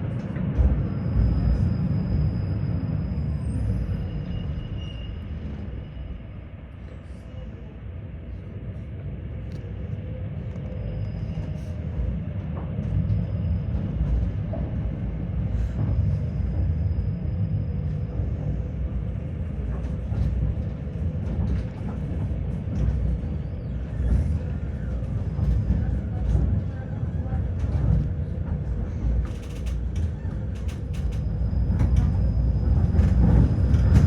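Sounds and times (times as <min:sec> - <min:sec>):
tram rumbling on rails: 0:00.0 - 0:34.0.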